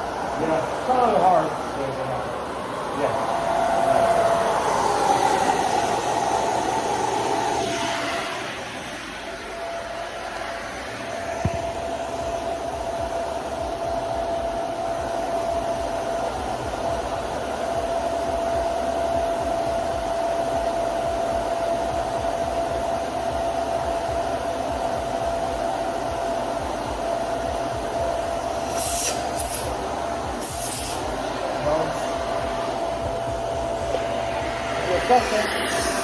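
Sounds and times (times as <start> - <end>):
vacuum cleaner running: 0.0 - 36.0.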